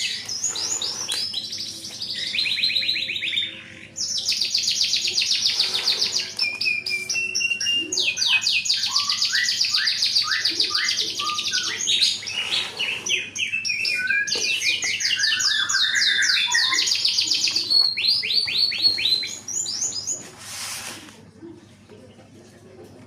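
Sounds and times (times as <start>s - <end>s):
songbirds trilling: 0.0s - 20.4s.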